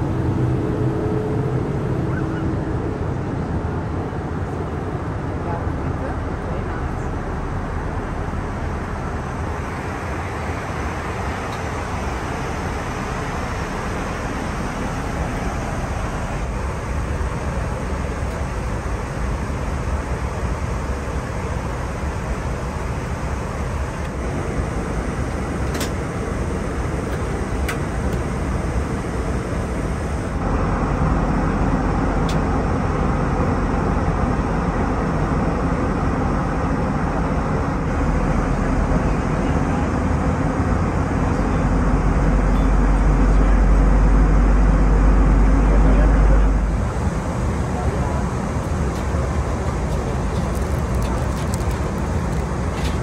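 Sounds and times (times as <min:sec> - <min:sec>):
airplane cabin airflow and engine drone: 0:00.0 - 0:53.0.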